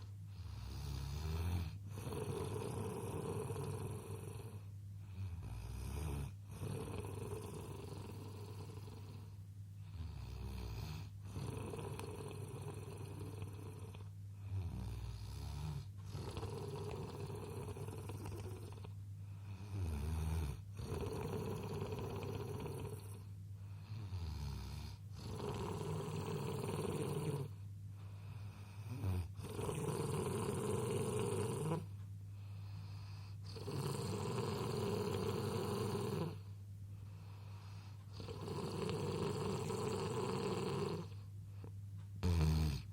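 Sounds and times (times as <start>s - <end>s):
baby snoring: 0.0s - 23.3s, 23.9s - 27.6s, 28.8s - 31.9s, 33.0s - 36.5s, 38.1s - 41.2s, 42.2s - 42.9s.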